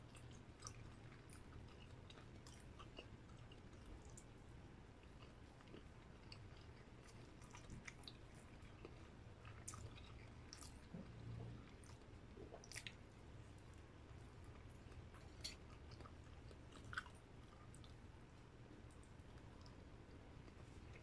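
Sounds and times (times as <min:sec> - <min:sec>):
chewing meat with wet mouth clicks: 0:00.0 - 0:21.0.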